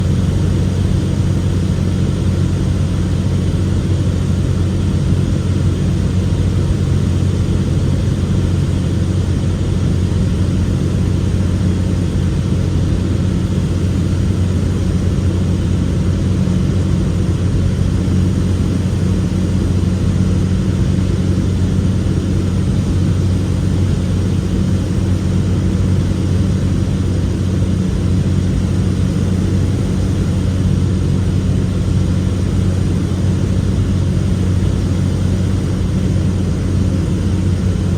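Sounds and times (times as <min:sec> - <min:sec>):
propeller plane engine droning: 0:00.0 - 0:37.9.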